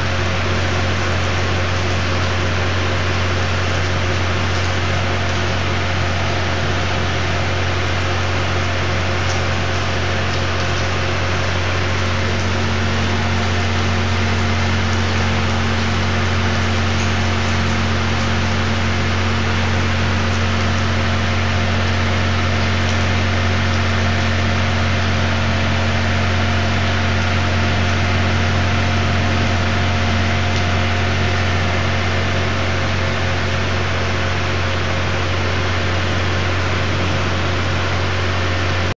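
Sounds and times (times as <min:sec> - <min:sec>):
loud constant low hum: 0:00.0 - 0:38.9
steady rain hiss: 0:00.0 - 0:38.9.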